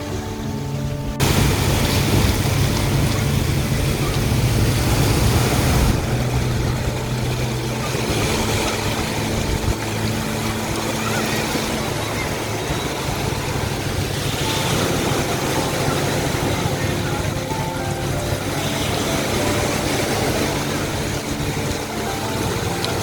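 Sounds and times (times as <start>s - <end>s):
engine running: 0.0s - 23.0s
surf washing: 0.0s - 23.0s.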